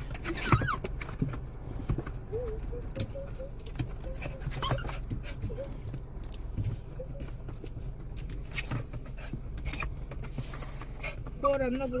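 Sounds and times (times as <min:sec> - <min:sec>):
paw taps: 0:00.0 - 0:11.5
low outdoor rumble: 0:00.0 - 0:12.0.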